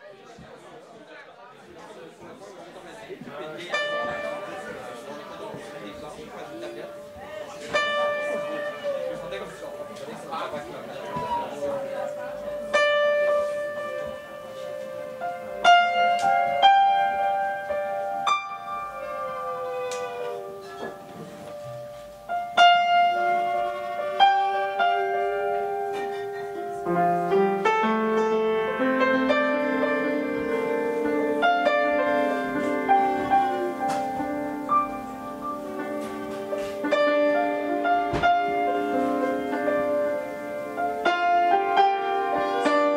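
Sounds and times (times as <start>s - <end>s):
piano notes ringing: 3.3s - 42.9s.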